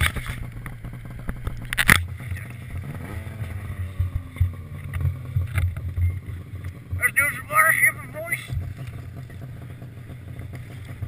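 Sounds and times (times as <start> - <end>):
engine revving up: 0.0 - 11.0
snowmobile engines idling: 0.0 - 11.0.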